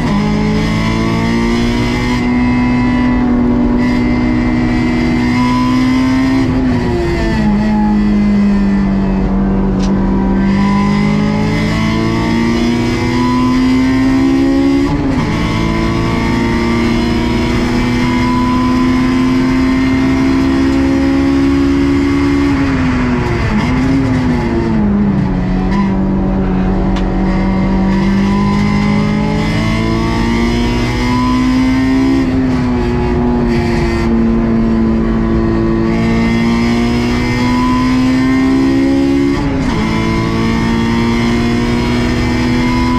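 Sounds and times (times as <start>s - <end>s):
car engine revving under load: 0.0s - 42.9s.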